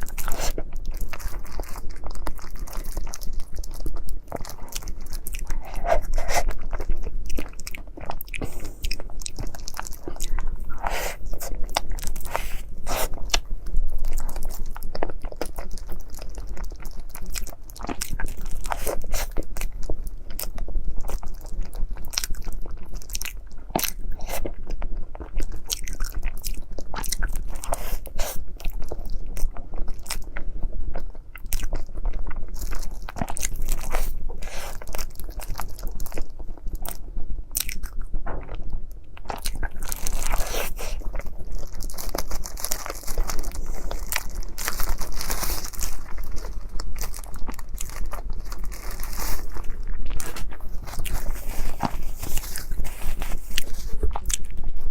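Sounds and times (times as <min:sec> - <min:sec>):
crunchy chewing of dessert: 0:00.0 - 0:54.9.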